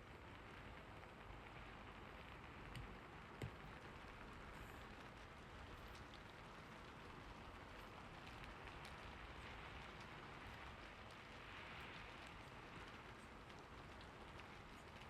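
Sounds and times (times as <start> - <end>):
faint steady rain: 0.0 - 15.0
raindrop ticks: 0.1 - 15.0.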